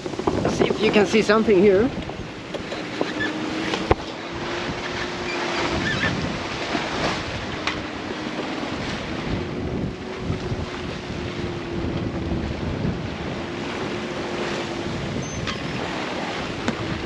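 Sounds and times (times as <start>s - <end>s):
waves rushing along hull: 0.0s - 17.0s
wind on microphone: 0.0s - 17.0s.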